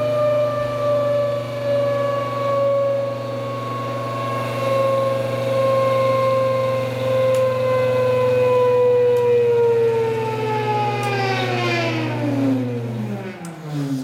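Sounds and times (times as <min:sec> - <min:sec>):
motor-generator whining: 0:00.0 - 0:14.0.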